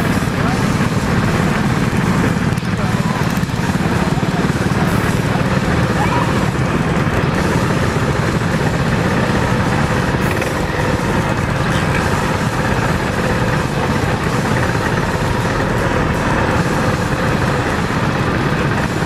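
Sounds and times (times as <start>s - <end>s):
mini bike engine running: 0.0s - 19.0s
other mini bike engines: 0.0s - 19.0s.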